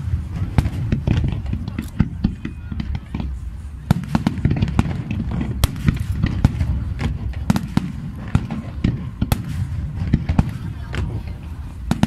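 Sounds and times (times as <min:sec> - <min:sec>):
distant explosions rumbling: 0:00.0 - 0:12.0
fireworks bangs and crackles: 0:00.0 - 0:12.0.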